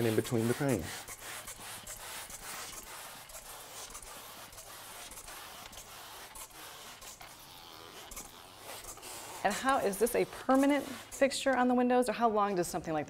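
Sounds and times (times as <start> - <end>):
spray bottle squirting: 0.0 - 12.0.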